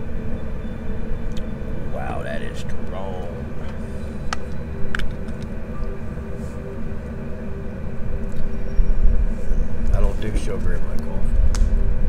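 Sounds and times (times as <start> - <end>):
faint constant hum: 0.0 - 12.0.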